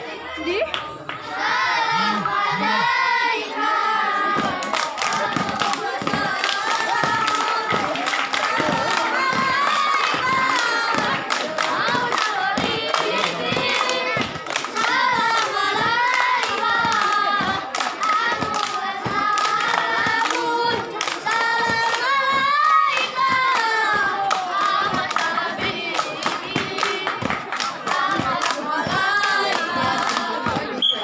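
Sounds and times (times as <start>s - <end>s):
children singing in unison: 1.1s - 30.8s
hand claps: 4.3s - 30.8s.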